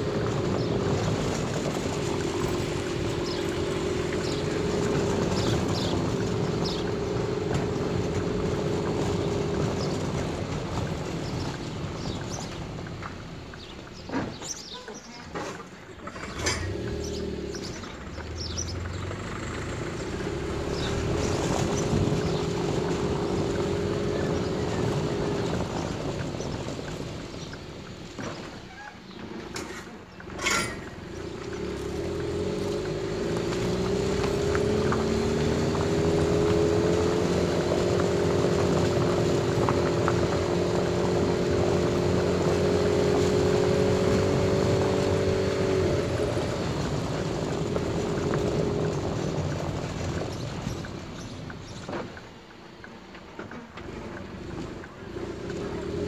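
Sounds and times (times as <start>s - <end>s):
car engine while driving: 0.0s - 56.0s.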